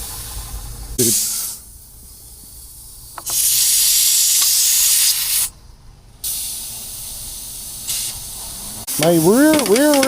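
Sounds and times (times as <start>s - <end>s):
compressed air hissing into tyre: 0.0s - 5.5s, 6.2s - 9.6s.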